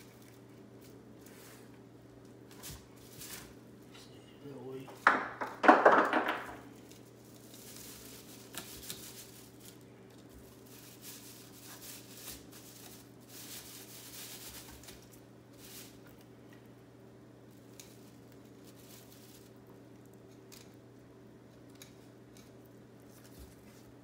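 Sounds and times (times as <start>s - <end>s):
steady low hum: 0.0s - 5.6s, 6.4s - 24.0s.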